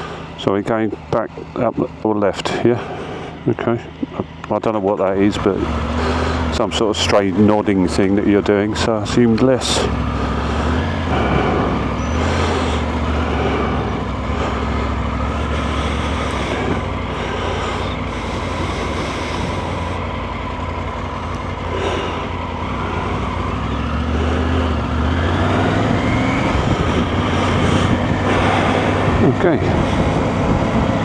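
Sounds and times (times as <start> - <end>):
motorcycle engine droning: 0.0 - 31.0.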